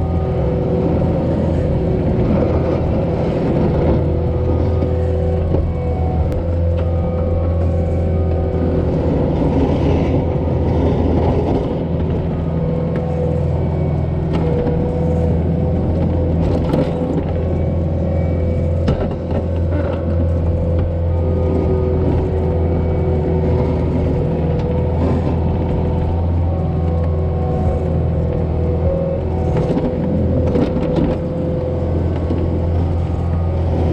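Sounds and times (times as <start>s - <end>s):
diesel engine running under load: 0.0s - 33.9s.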